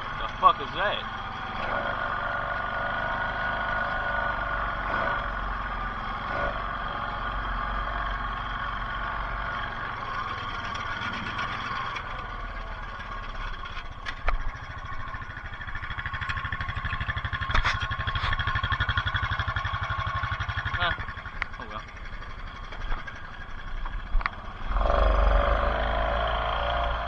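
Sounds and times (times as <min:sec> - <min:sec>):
atv engine idling: 0:00.0 - 0:27.0.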